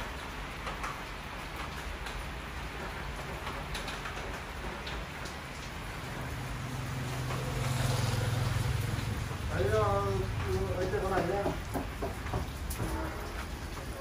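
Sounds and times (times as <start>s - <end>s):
rain on wet road: 0.0s - 14.0s.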